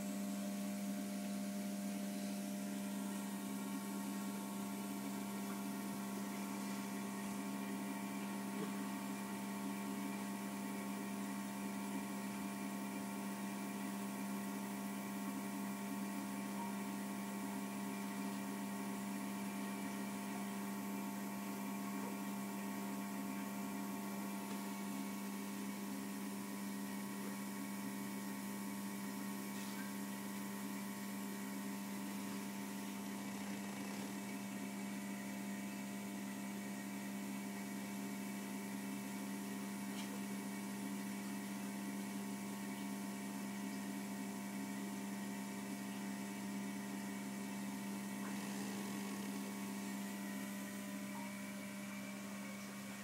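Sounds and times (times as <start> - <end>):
underwater electric hum: 0.0 - 53.0.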